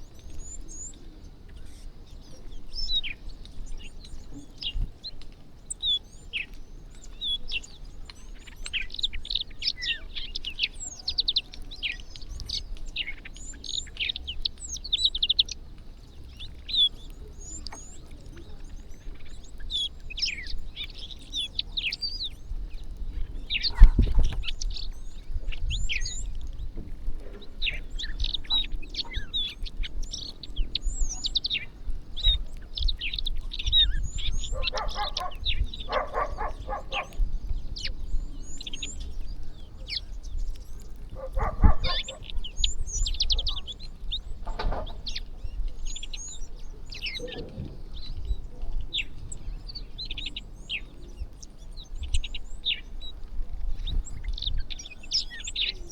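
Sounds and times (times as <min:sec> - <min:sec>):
low rapidly pulsing bird call: 0:00.0 - 0:55.9
small birds chirping: 0:00.0 - 0:55.9.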